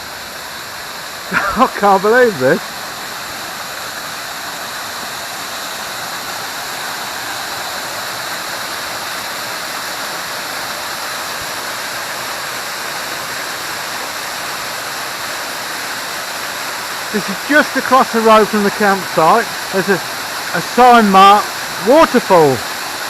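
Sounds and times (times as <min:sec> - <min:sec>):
small waterfall rushing: 0:00.0 - 0:23.0.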